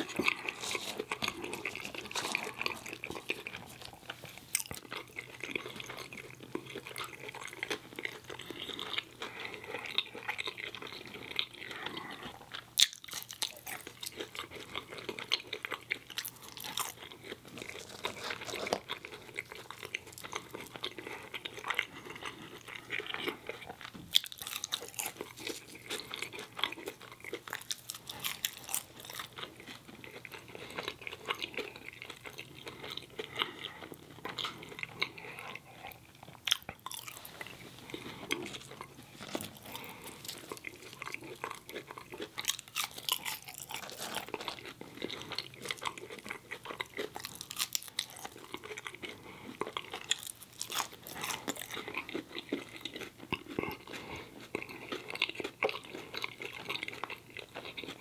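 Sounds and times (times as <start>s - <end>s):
chewing and biting food: 0.0s - 58.0s.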